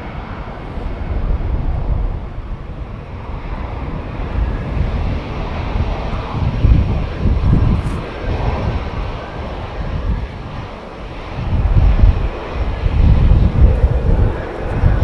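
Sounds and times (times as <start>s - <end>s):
jet engines at take-off power: 0.0s - 15.0s.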